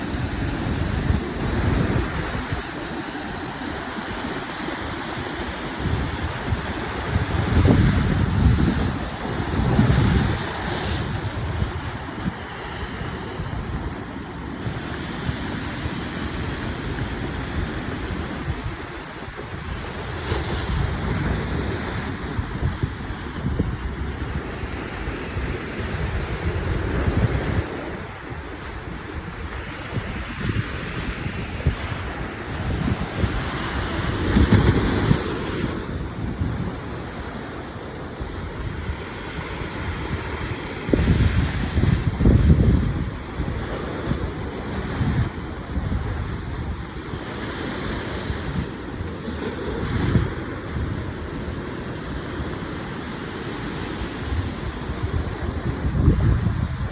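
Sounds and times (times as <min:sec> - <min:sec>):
wind buffeting microphone: 0:00.0 - 0:51.6, 0:53.8 - 0:56.9
sea surf washing on shore: 0:00.0 - 0:56.9.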